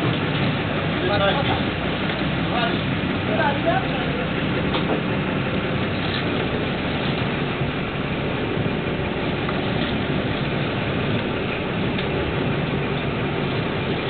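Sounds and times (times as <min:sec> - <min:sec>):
boat engine running: 0:00.0 - 0:14.0
sea noise: 0:00.0 - 0:14.0
wind: 0:00.0 - 0:14.0.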